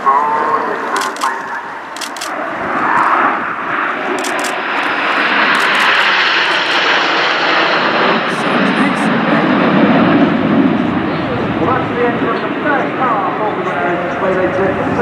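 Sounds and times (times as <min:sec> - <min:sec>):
jets flying over: 0:00.0 - 0:15.0.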